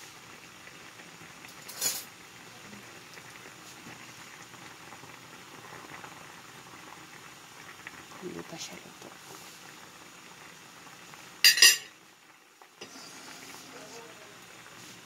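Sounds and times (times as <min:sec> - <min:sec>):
water boiling in a saucepan: 0:00.0 - 0:15.0.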